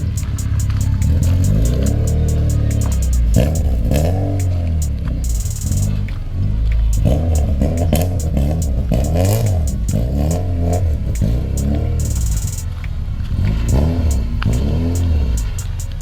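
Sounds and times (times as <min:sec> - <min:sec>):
background music with beat: 0:00.0 - 0:16.0
car engine revving: 0:00.0 - 0:16.0.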